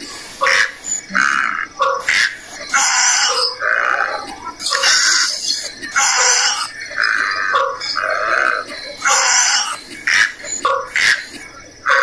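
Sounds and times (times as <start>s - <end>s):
rough animal calls: 0.0s - 12.0s.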